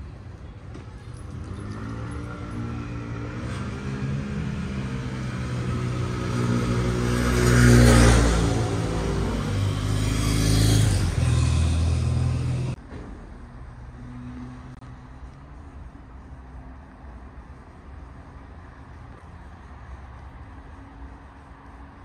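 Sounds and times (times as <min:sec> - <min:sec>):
vehicles driving past accelerating: 0:00.4 - 0:22.0.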